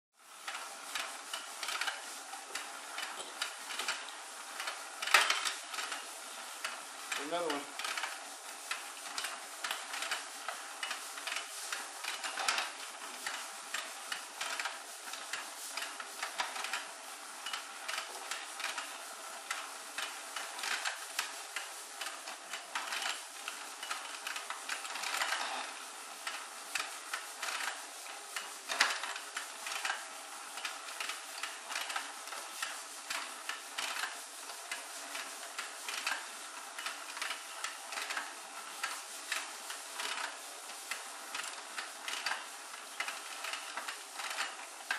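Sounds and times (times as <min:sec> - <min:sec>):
toy gears clicking and rattling: 0:00.4 - 0:44.9.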